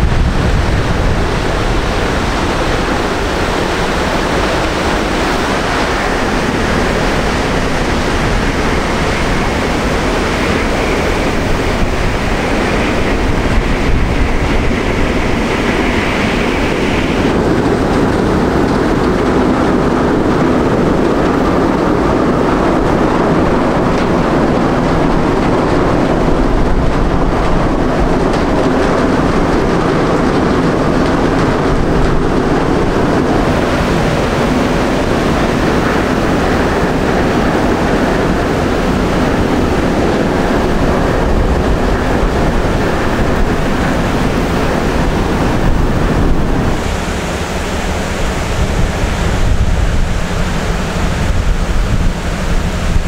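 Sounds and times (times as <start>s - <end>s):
ship engine rumble: 0.0s - 53.0s
water rushing from wake: 0.0s - 53.0s
wind buffeting microphone: 0.0s - 53.0s.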